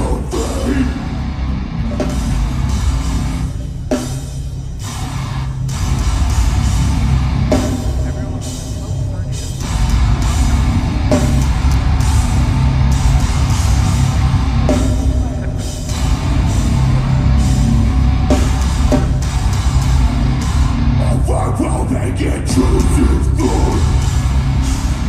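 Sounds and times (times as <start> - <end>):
live metal band playing: 0.0 - 25.0.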